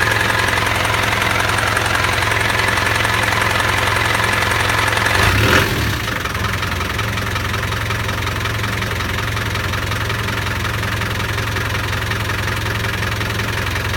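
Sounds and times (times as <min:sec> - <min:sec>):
engine idling with ticking: 0:00.0 - 0:13.9.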